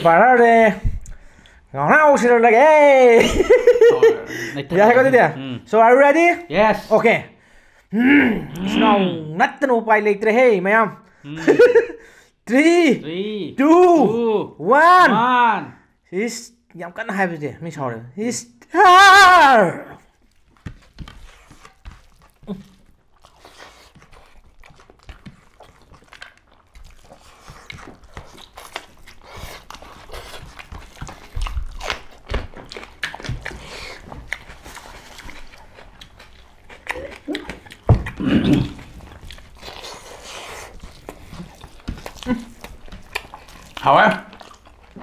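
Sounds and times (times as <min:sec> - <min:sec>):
people chewing food: 0:00.0 - 0:09.4, 0:11.0 - 0:14.4, 0:18.7 - 0:45.0.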